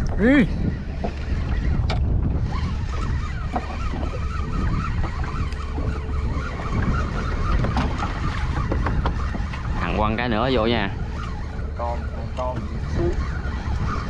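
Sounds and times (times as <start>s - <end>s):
fishing boat engine rumble: 0.0s - 14.0s.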